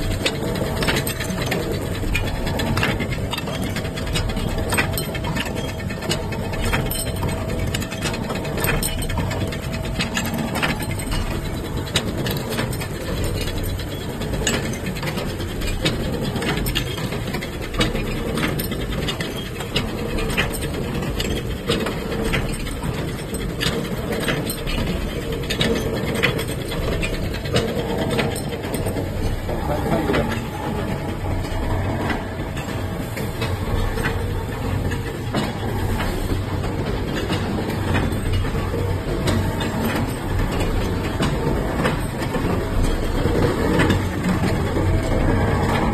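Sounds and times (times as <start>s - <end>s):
machine clattering: 0.0s - 45.9s
sharp mechanical clacks: 0.0s - 45.9s.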